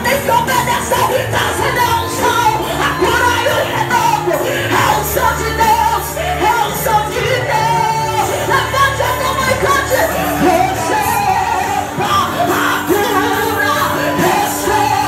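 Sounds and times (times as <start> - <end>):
woman singing amplified: 0.0 - 15.0
worship music accompaniment: 0.0 - 15.0.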